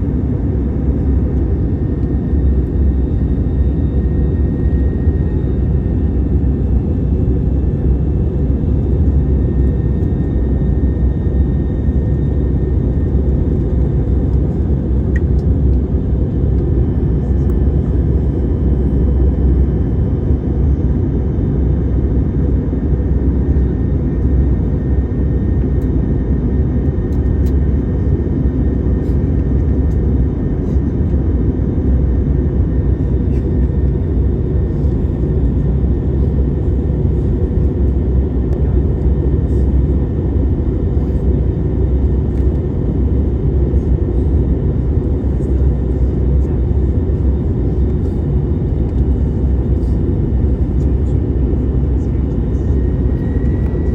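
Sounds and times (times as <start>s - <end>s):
jet airliner rumble: 0.0s - 53.9s.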